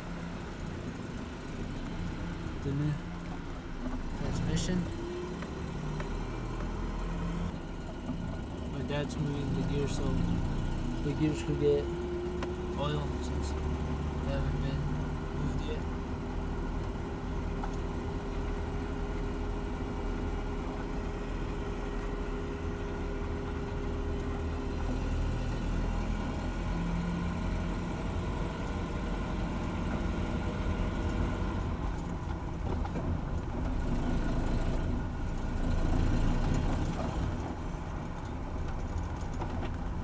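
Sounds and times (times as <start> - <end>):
truck engine running from inside cab: 0.0 - 40.0.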